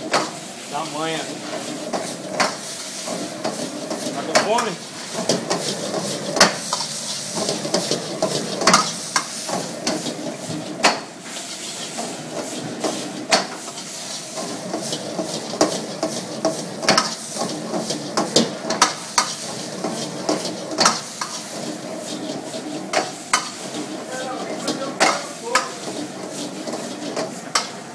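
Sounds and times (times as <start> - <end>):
food sizzling in a wok: 0.0 - 27.9.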